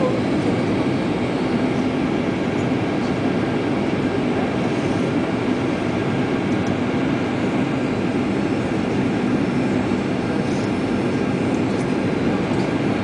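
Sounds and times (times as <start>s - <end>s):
airliner cabin low roar: 0.0s - 13.0s.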